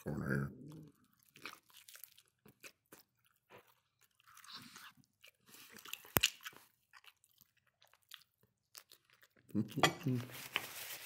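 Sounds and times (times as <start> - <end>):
chewing and crunching: 0.4 - 11.0.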